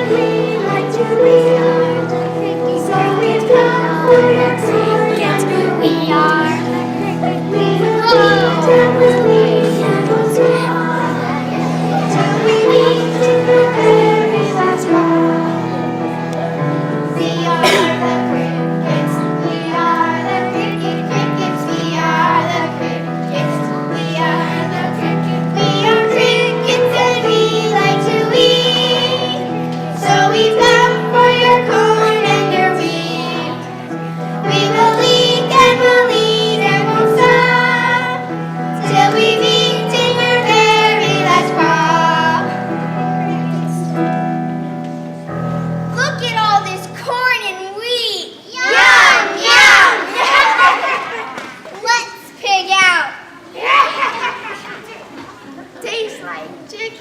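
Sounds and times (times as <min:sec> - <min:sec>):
children singing: 0:00.0 - 0:44.2, 0:48.6 - 0:51.4
instrumental accompaniment: 0:00.0 - 0:47.1.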